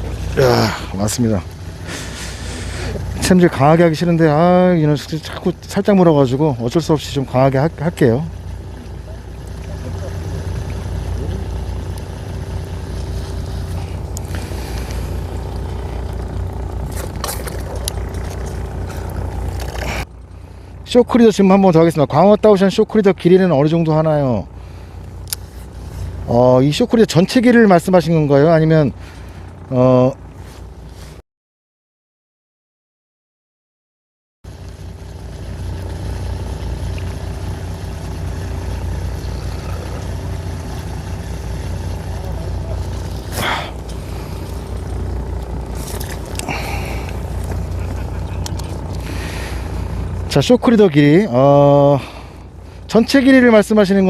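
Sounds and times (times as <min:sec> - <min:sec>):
boat engine droning: 0:00.0 - 0:31.2, 0:34.5 - 0:54.0
faint steady hum: 0:00.0 - 0:31.2, 0:34.5 - 0:54.0.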